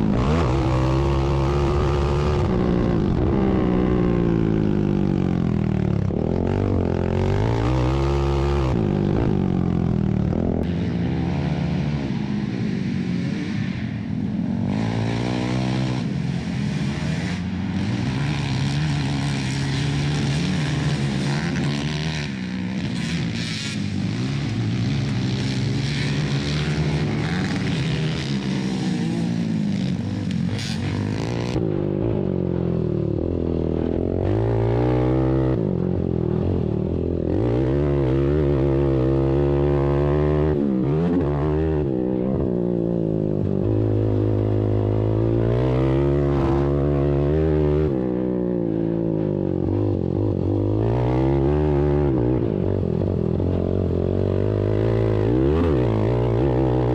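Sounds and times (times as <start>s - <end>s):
atv engines revving: 0.0s - 56.9s.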